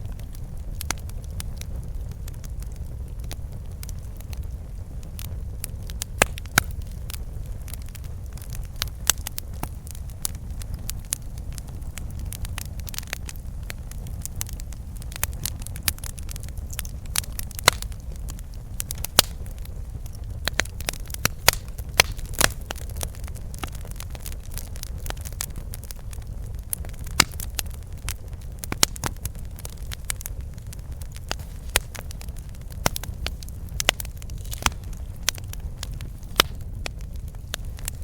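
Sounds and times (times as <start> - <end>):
burning wood popping: 0.0 - 38.0
campfire crackling: 0.0 - 38.0.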